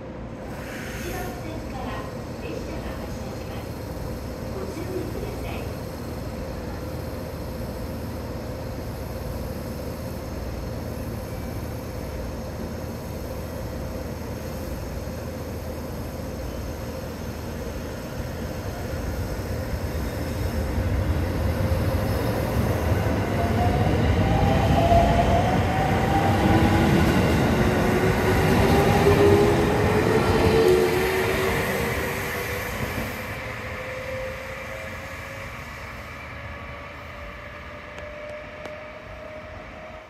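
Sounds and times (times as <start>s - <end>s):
train cars rumbling past: 0.0s - 40.0s.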